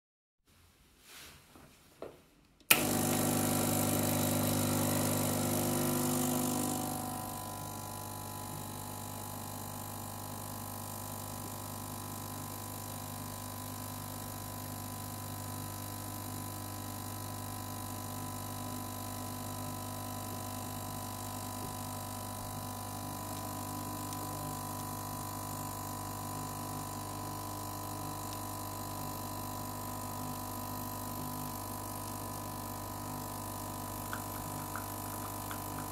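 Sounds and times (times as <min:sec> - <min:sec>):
espresso machine pump humming: 0:02.7 - 0:35.9.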